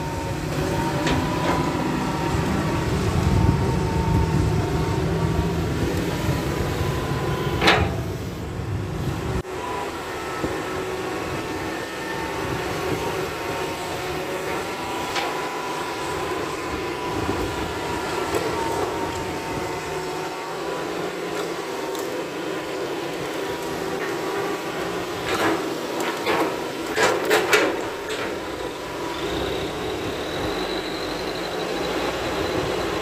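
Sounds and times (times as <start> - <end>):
excavator diesel engine whine: 0.0 - 33.0.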